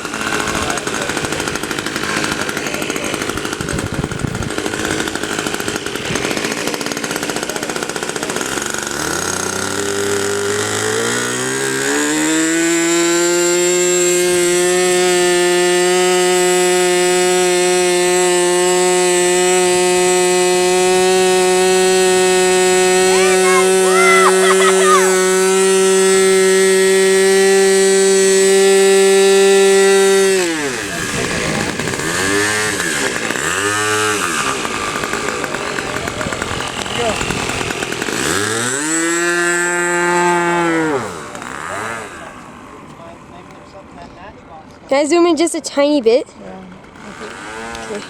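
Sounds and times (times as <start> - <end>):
model airplane engine whine: 0.0 - 23.8, 24.6 - 43.6.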